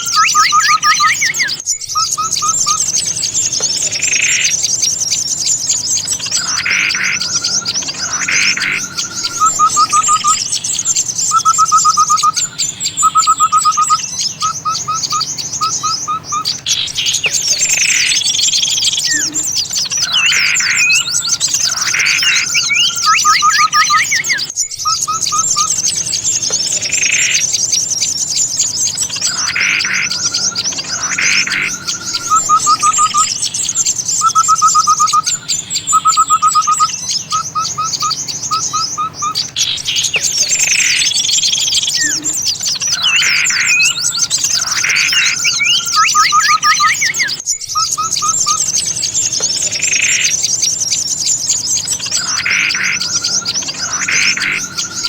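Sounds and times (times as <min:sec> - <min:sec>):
short bird trills: 0:00.0 - 0:55.0
small birds chattering: 0:00.0 - 0:55.0.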